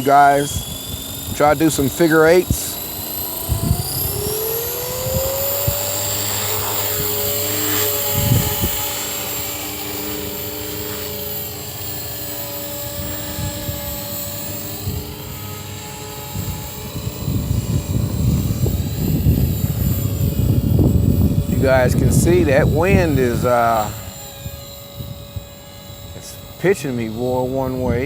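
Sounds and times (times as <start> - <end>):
rc helicopter rotor whine: 0.0 - 28.0
wind buffeting microphone: 0.0 - 28.0.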